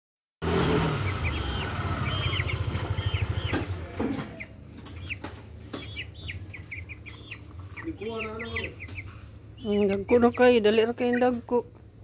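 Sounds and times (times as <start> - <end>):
young chickens peeping: 0.4 - 12.0.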